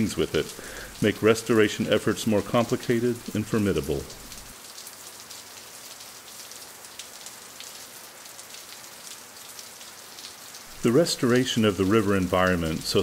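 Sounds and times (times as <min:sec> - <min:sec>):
soft rain-like hiss: 0:00.0 - 0:13.0.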